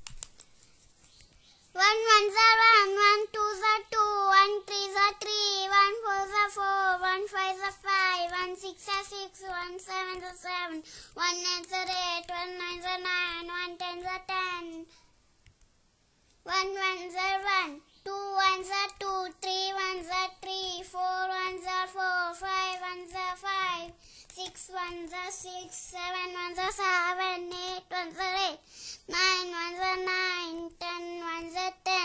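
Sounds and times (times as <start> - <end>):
child chanting in sing-song: 1.7 - 15.0, 16.4 - 32.0.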